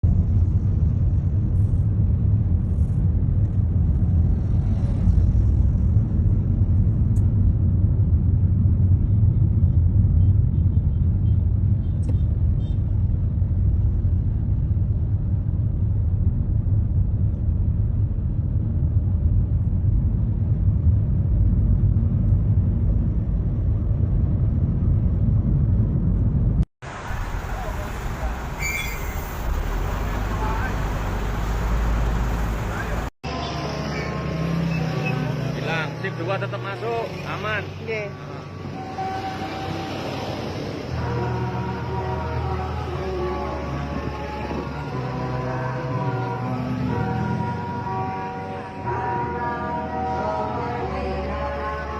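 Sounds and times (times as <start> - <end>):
low rumble of road vehicle: 0.0 - 51.9.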